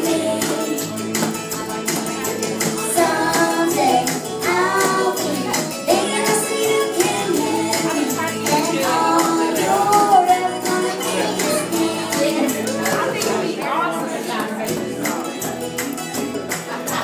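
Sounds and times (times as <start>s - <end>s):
backing track with percussion beat: 0.0s - 13.6s, 14.4s - 17.0s
girl singing karaoke: 0.0s - 16.4s.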